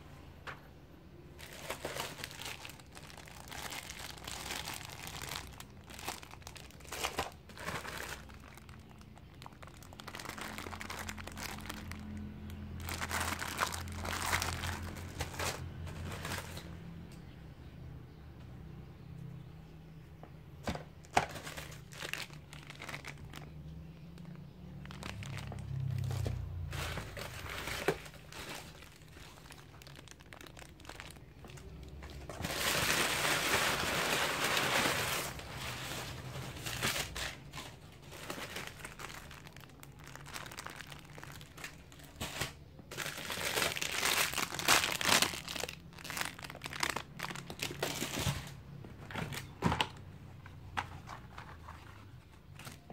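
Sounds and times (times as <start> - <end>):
paper crumpling and rustling: 1.4 - 12.2, 12.8 - 16.7, 21.1 - 23.6, 24.3 - 49.5.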